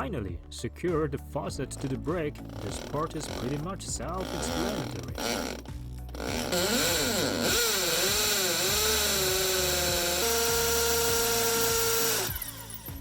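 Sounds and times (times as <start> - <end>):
power drill boring into brick: 1.7 - 13.0.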